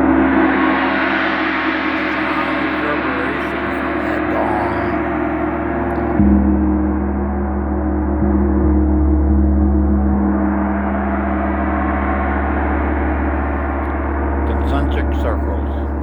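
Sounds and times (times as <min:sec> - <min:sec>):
deep low gong hum: 0:01.8 - 0:16.0.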